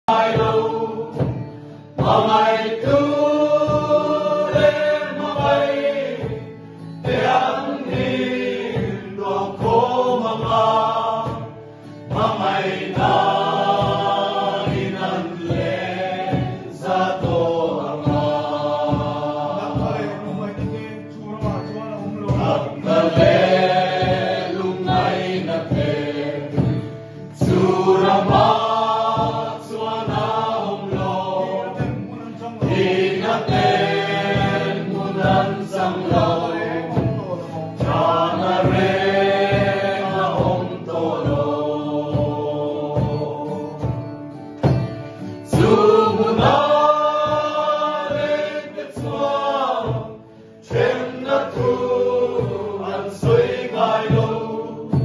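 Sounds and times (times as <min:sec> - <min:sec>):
acoustic guitar: 0:00.0 - 0:55.0
group singing together: 0:00.0 - 0:55.0
cylindrical drum beating: 0:00.1 - 0:55.0.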